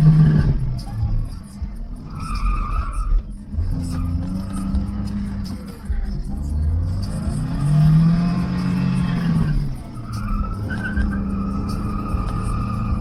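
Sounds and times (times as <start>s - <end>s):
car engine revving: 0.0s - 13.0s
tyres squealing: 0.0s - 13.0s.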